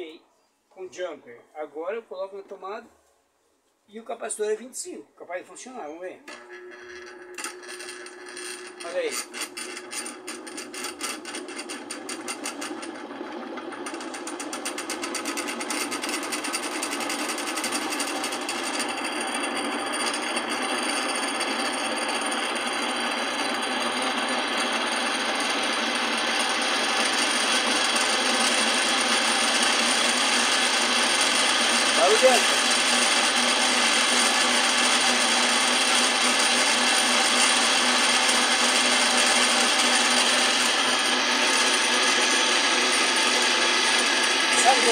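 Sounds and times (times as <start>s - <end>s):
spin dryer motor spinning up: 6.3s - 44.9s.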